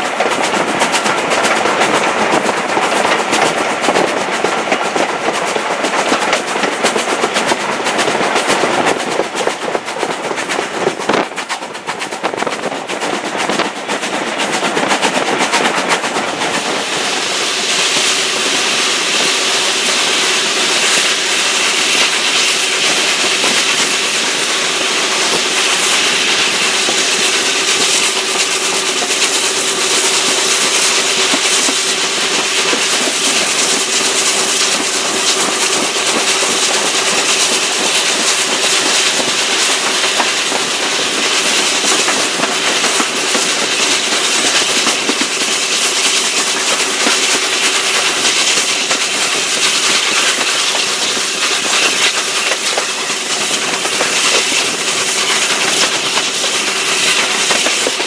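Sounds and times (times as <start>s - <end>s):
steam locomotive exhaust beats: 0.0s - 58.0s
train rumble and clatter: 0.0s - 58.0s.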